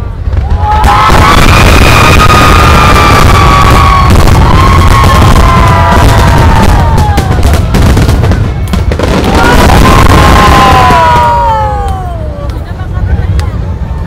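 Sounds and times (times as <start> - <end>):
crackling firework bangs: 0.0 - 12.0
fireworks booming: 0.0 - 12.4
whistling firework tones: 0.0 - 12.4.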